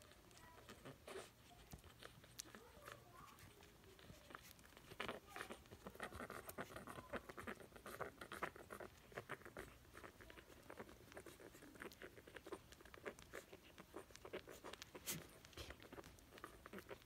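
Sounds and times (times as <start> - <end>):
puppy paws pattering and scratching: 0.0 - 17.0.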